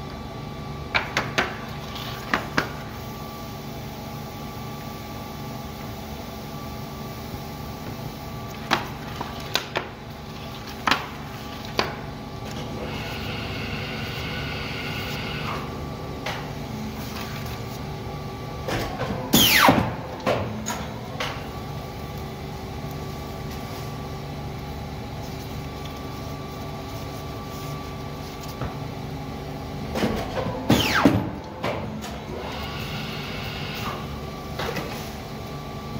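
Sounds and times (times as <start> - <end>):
paper cutter machine hum: 1.7 - 35.9.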